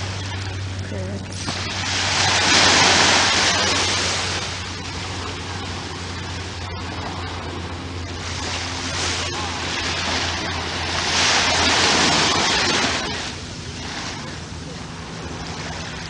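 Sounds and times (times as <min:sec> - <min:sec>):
low hum: 0:00.0 - 0:16.0
small waves washing on beach: 0:00.0 - 0:16.0.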